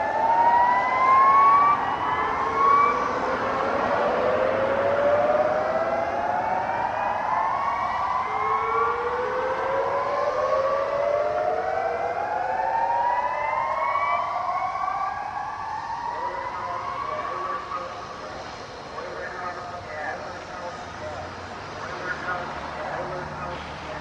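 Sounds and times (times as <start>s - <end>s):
warning sirens rising sweeps: 0.0s - 24.0s.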